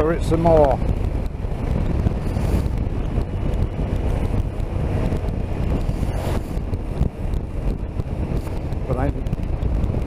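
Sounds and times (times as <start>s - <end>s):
motorcycle engine: 0.0s - 10.0s
road noise: 0.0s - 10.0s
wind rushing over microphone: 0.0s - 10.0s.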